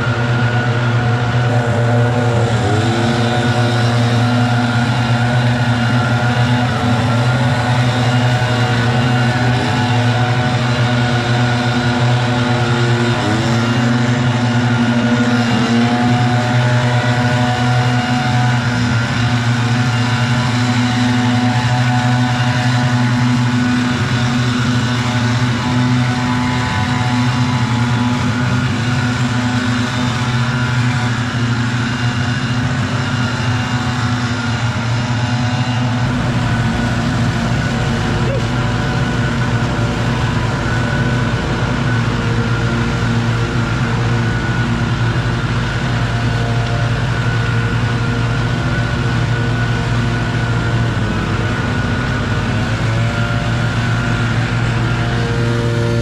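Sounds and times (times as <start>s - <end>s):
leaf blowers running: 0.0s - 56.0s.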